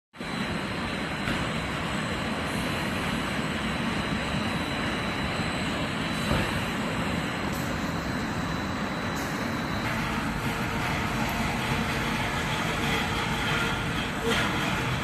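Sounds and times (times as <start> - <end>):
machinery mechanical drone: 0.2 - 15.0
thin high whine: 1.9 - 15.0.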